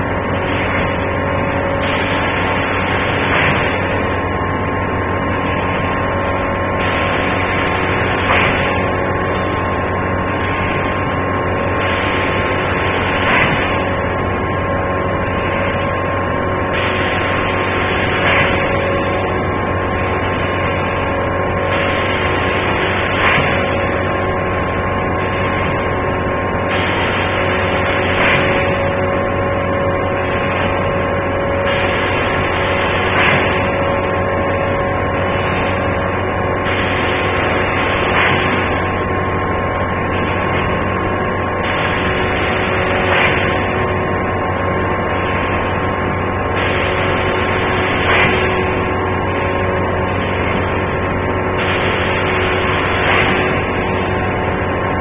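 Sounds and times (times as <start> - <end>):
machine mechanical hum: 0.0 - 55.0.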